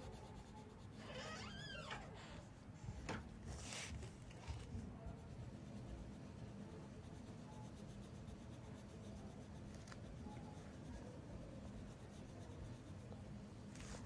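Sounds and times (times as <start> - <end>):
pencil scratching on paper: 0.0 - 14.0.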